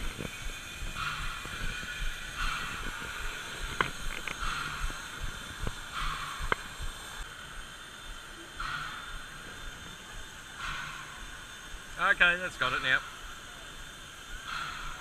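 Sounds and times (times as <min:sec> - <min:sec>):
hissing puffs: 0:00.0 - 0:15.0.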